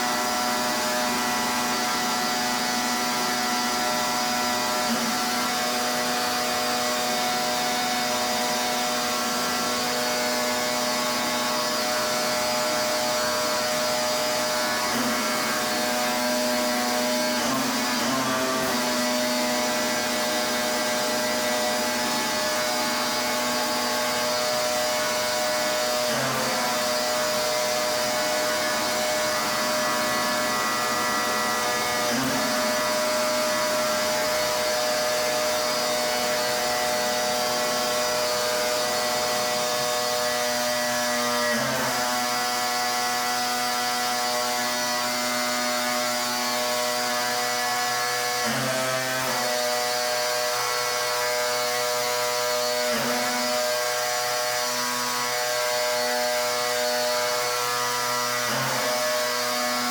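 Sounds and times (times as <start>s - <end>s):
pressure washer motor droning: 0.0s - 59.9s.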